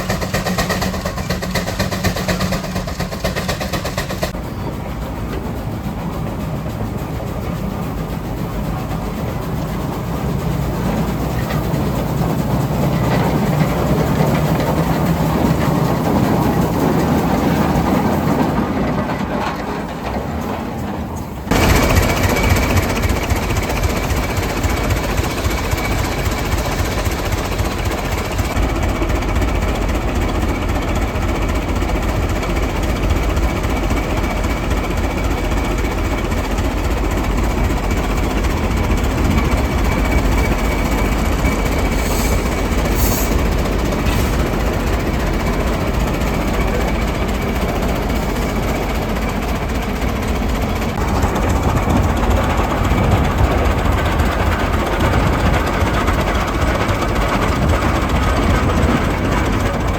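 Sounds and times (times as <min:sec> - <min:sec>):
steam traction engine running: 0:00.0 - 0:59.9.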